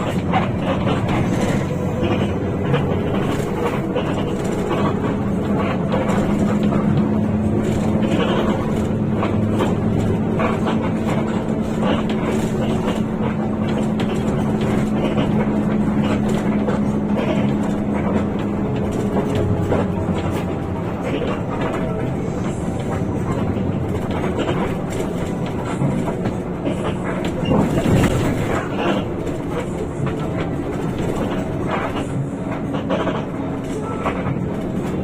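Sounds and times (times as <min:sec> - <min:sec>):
bus engine droning: 0:00.0 - 0:35.0
light rattles and clicks: 0:00.0 - 0:35.0
road noise: 0:00.0 - 0:35.0.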